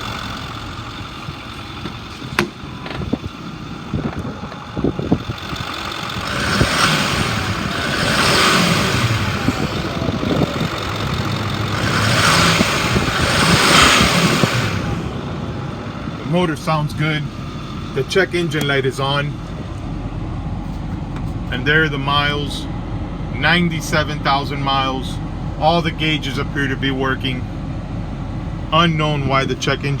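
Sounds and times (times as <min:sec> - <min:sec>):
diesel engine idling and revving: 0:00.0 - 0:30.0.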